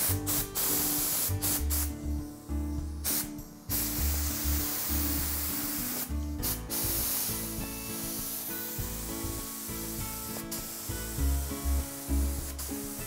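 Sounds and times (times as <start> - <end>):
spray gun hissing: 0.0 - 2.0, 3.0 - 13.0
background music: 0.0 - 13.0.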